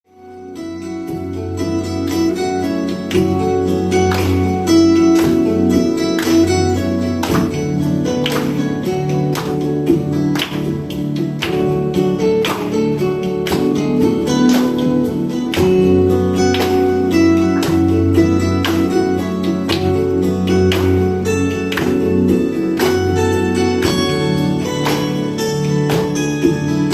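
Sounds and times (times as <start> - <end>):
guitar strumming chords: 0.1 - 26.9.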